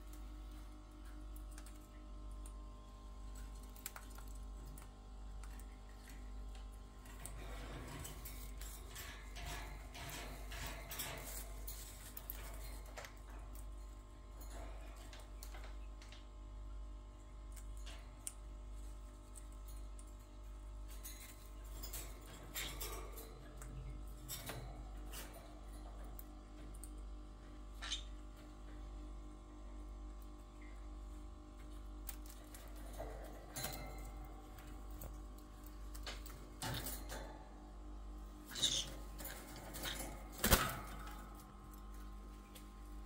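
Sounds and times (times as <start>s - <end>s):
faint steady hum: 0.0s - 43.0s
beak and claws tapping cage bars: 0.4s - 16.4s, 17.5s - 29.0s, 30.1s - 43.0s.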